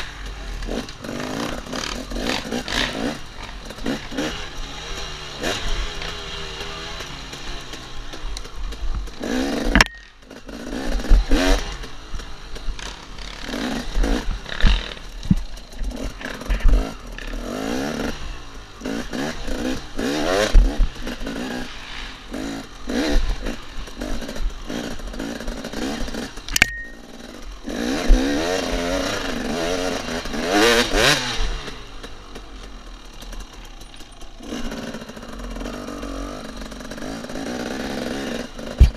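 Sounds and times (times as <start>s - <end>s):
bike knocking and clattering: 0.0s - 17.4s, 22.3s - 38.9s
dirt bike engine revving: 0.0s - 38.9s.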